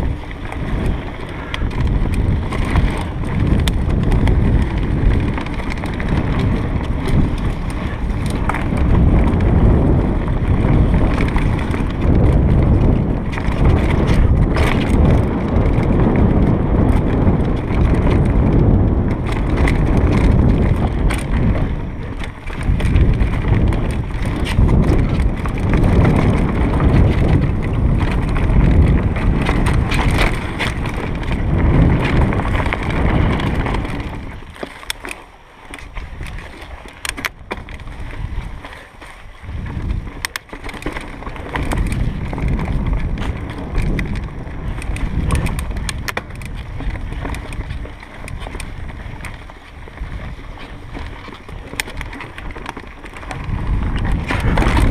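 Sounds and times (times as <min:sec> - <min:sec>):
bike clicks and rattles: 0:00.0 - 0:54.9
tyres rolling over dirt: 0:00.0 - 0:54.9
wind buffeting microphone: 0:00.0 - 0:54.9.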